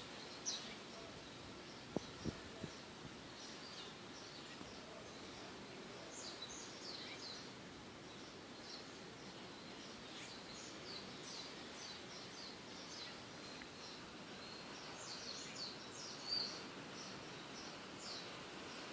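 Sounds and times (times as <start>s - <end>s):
low background hiss: 0.0s - 18.9s
small birds chirping: 0.0s - 18.9s.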